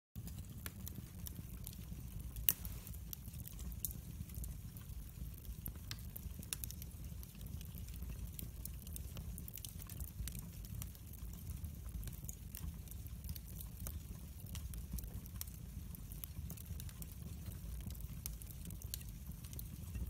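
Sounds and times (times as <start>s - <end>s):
low rumble of flames: 0.2s - 20.0s
wood fire crackling and popping: 0.2s - 20.0s.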